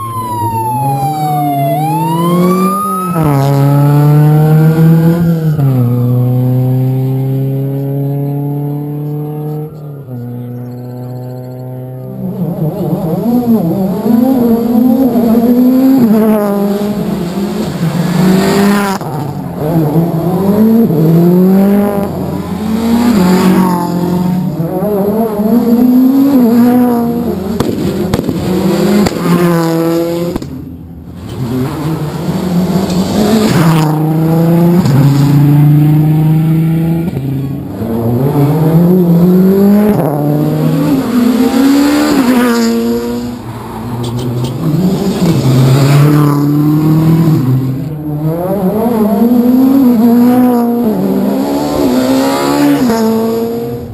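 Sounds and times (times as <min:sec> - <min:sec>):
rally car engine at full throttle: 0:00.0 - 0:53.9.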